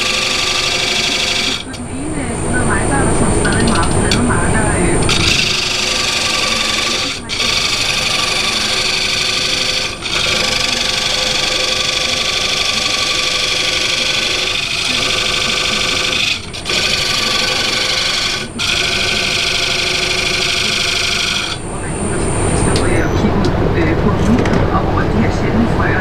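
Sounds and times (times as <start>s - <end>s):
wood lathe tool scraping hiss: 0.0s - 1.8s, 2.4s - 23.2s.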